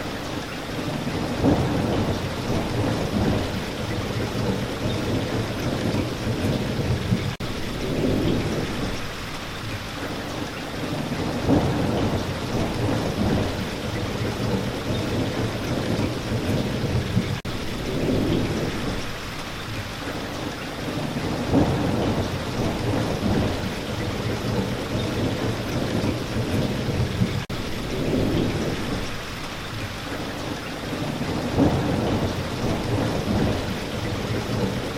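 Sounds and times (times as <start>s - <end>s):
heavy rain falling: 0.0s - 34.9s
thunder rumbling: 0.8s - 9.4s, 10.8s - 19.4s, 20.8s - 29.7s, 30.8s - 34.9s.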